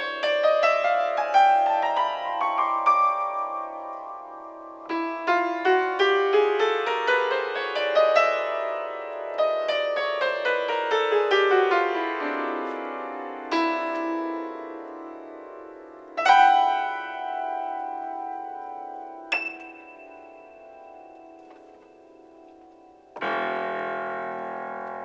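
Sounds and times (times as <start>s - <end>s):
improvised piano music: 0.0s - 25.0s.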